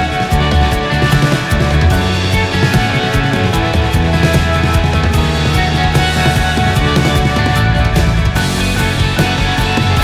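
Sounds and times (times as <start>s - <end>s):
rock music with guitar and bass: 0.0s - 10.0s.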